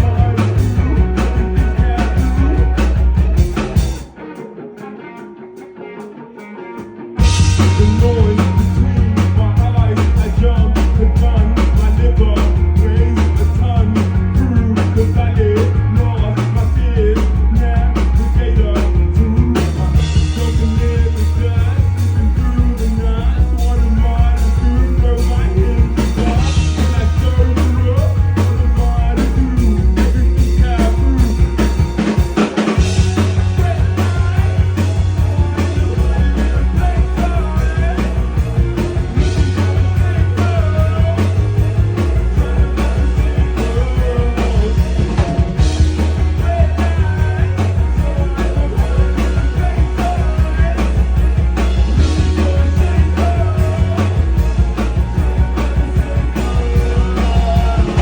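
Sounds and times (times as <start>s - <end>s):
busy drum kit: 0.0s - 4.2s, 7.2s - 58.0s
loud bass line: 0.0s - 4.2s, 7.2s - 58.0s
live rock band playing: 0.0s - 58.0s.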